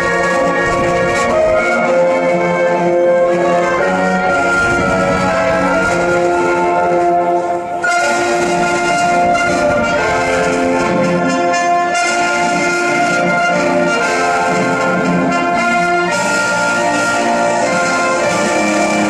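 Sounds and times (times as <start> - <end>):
orchestral music with brass: 0.0 - 19.0.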